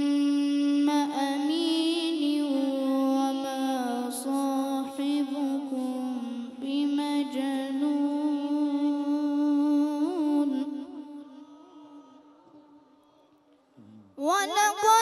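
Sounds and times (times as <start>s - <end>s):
boy reciting in melodic style: 0.0s - 13.2s, 14.2s - 15.0s.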